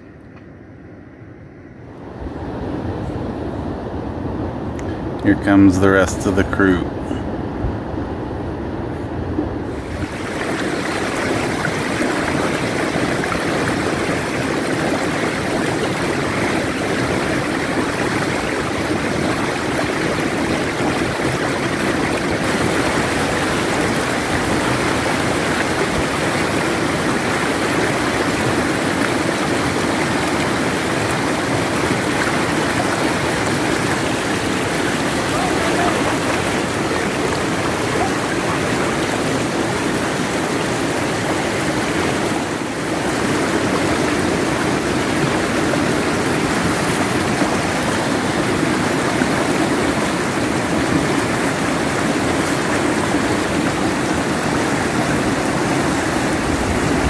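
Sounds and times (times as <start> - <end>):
river rapids rushing over rocks: 9.7 - 57.0.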